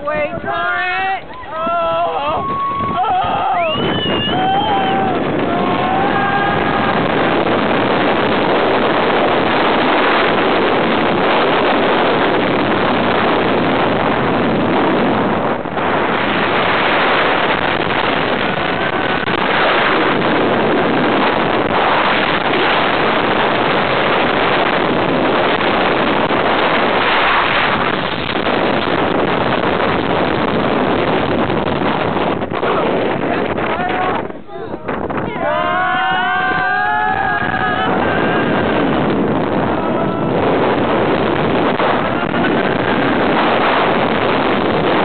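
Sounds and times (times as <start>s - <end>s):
roller coaster train on track: 0.0s - 45.0s
wind rushing over microphone: 0.0s - 45.0s.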